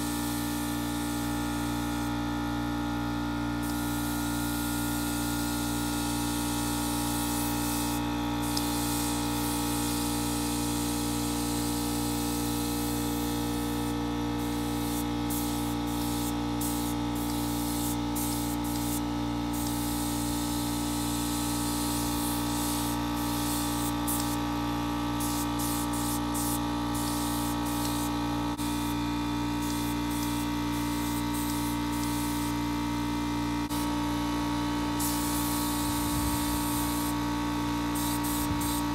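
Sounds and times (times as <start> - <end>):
paint spray gun hissing: 0.0 - 2.1, 3.5 - 32.6, 35.0 - 38.9
steady hum: 0.2 - 38.9.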